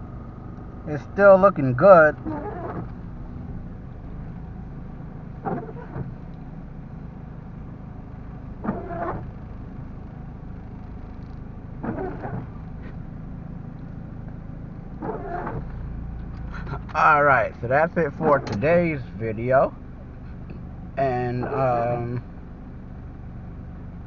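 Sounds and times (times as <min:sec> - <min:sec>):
car engine and road hum: 0:00.0 - 0:24.0.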